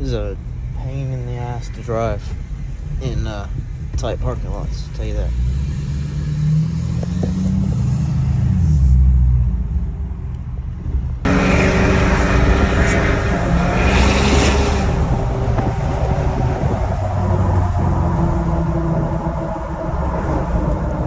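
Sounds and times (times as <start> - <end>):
diesel truck engine rumbling: 0.0 - 21.0
road noise: 0.0 - 21.0.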